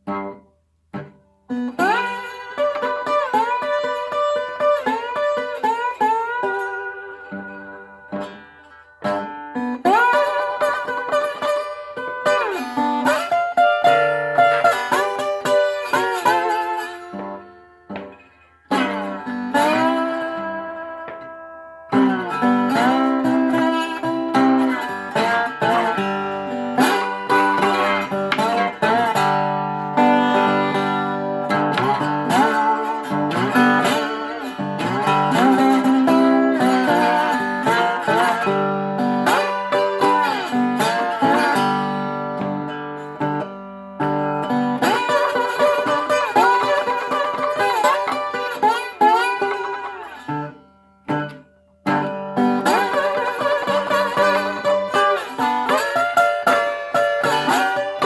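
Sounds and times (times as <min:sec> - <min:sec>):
slide resonator guitar: 0:00.0 - 0:58.0.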